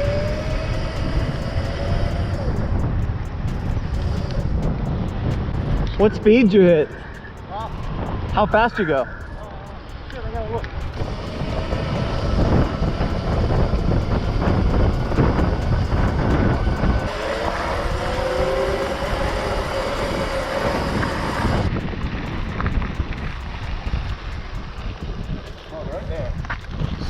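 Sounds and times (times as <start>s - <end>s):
whining tone bending in pitch: 0.0s - 25.5s
wind buffeting microphone: 0.0s - 27.0s.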